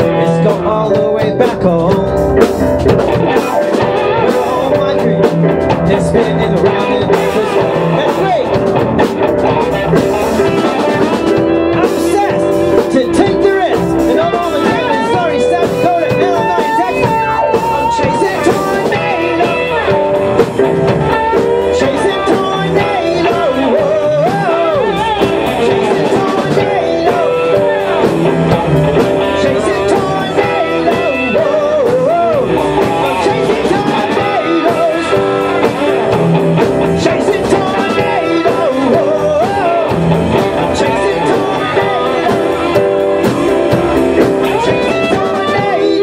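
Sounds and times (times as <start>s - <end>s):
electric guitar lead: 0.0s - 46.0s
rock band playing: 0.0s - 46.0s.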